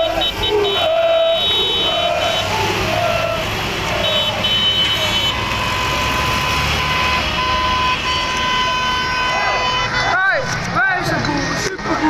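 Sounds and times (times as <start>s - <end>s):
vehicle horns blasting: 0.0s - 10.7s
tractor engines rumbling: 0.0s - 12.0s.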